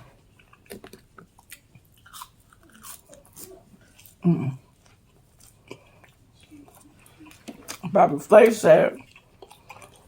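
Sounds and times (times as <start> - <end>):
person chewing crunchy food: 0.0 - 8.1, 8.7 - 10.0.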